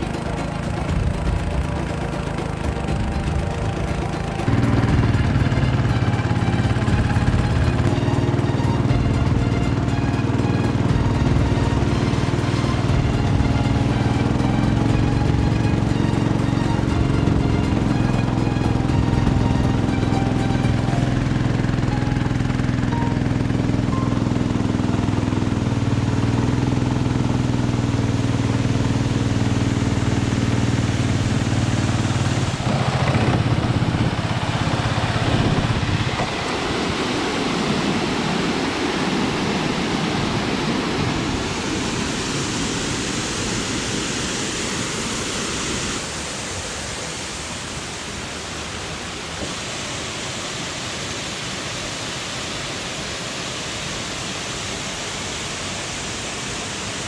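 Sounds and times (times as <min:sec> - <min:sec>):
steady engine hum: 0:00.0 - 0:46.1
rushing river and waterfall: 0:00.0 - 0:57.0.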